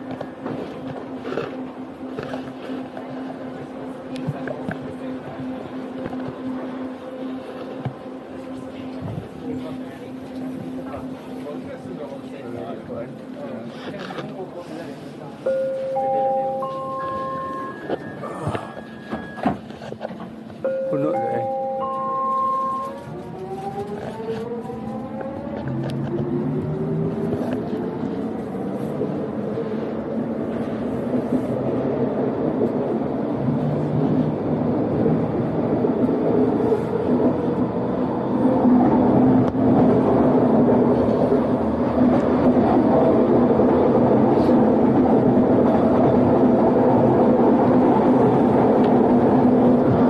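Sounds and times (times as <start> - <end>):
train rumble and rolling noise: 0.0 - 50.0.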